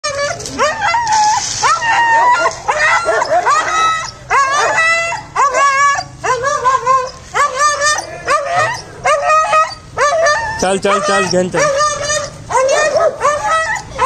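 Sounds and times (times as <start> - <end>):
dogs barking and yelping: 0.0 - 14.0.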